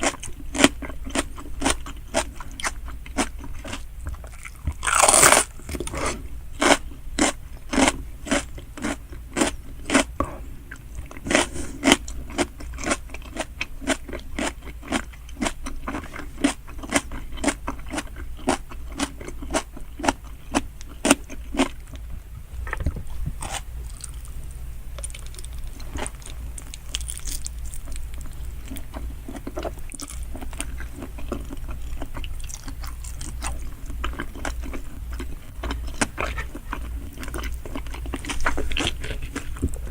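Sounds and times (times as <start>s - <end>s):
close chewing: 0.0s - 24.4s, 25.0s - 39.9s.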